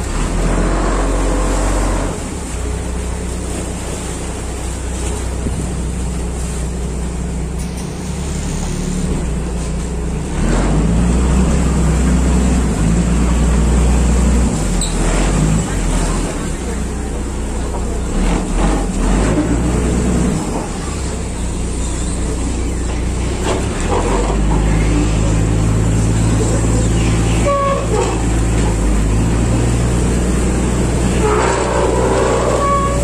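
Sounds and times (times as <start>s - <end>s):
engine droning: 0.0s - 33.0s.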